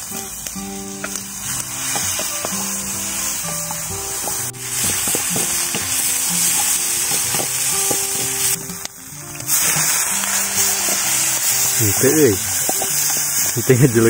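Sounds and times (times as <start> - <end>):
background music with held notes: 0.0 - 14.0
food sizzling in hot oil: 0.0 - 14.0.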